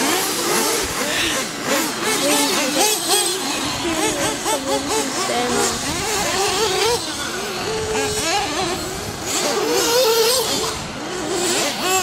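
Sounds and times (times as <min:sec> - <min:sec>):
rc buggy engines buzzing: 0:00.0 - 0:12.0.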